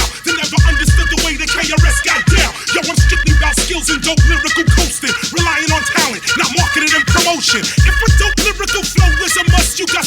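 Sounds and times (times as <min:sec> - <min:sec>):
rapping over a beat: 0:00.0 - 0:10.0.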